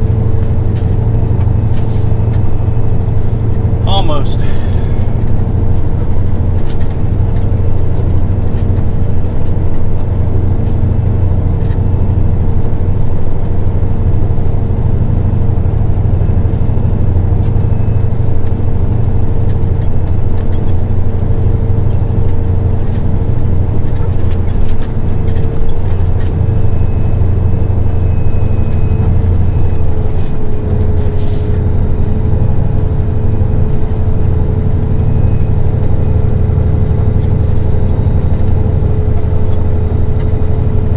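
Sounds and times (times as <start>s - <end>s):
steady whine: 0.0s - 40.9s
truck engine and road drone: 0.0s - 40.9s.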